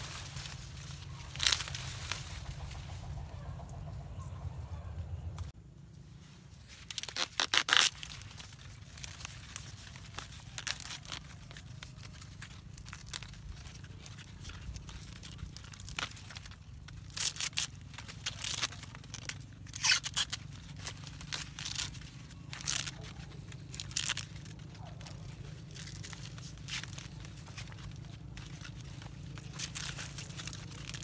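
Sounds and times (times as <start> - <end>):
corn husks tearing and crunching: 0.0 - 3.3, 6.2 - 31.0.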